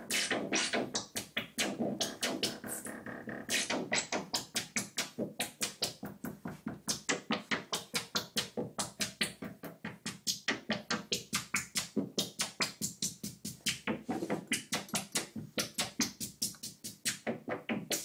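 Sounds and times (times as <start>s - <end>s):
synthesizer percussive blips: 0.0s - 18.0s.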